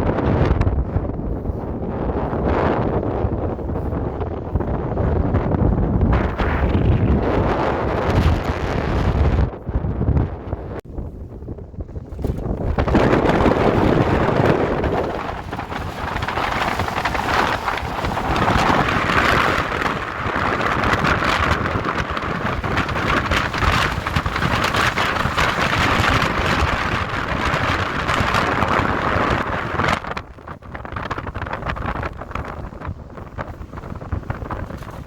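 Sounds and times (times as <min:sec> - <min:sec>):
strong wind buffeting microphone: 0:00.0 - 0:35.0.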